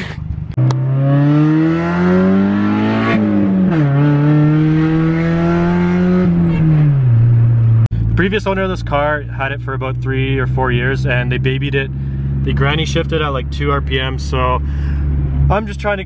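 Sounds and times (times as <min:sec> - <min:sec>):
car engine accelerating hard: 0:00.5 - 0:16.0.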